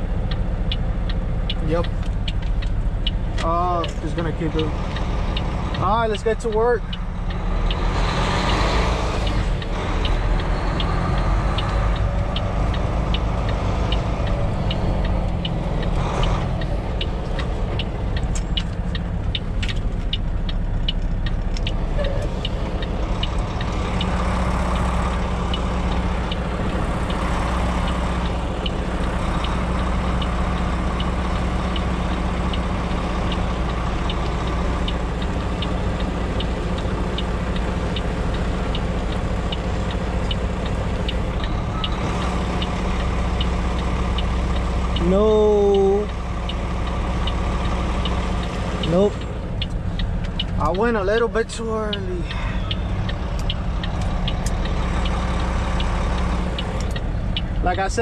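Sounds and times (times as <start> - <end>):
diesel engine running: 0.0 - 58.0
steady ticking: 0.0 - 58.0.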